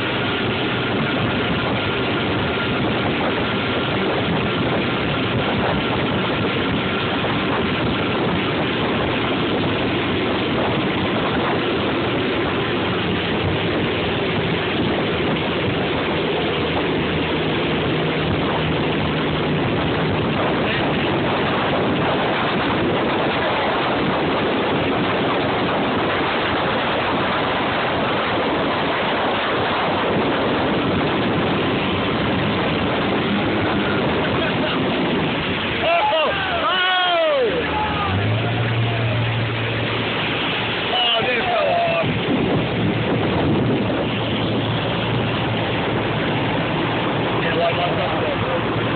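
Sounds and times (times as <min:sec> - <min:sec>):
motorboat engine: 0:00.0 - 0:48.9
rushing boat wake: 0:00.0 - 0:48.9
wind on microphone: 0:00.0 - 0:48.9.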